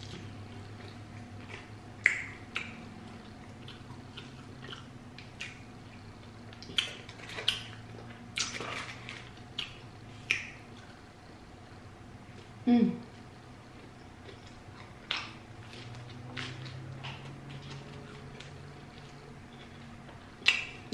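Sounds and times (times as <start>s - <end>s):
low steady hum: 0.0s - 20.9s.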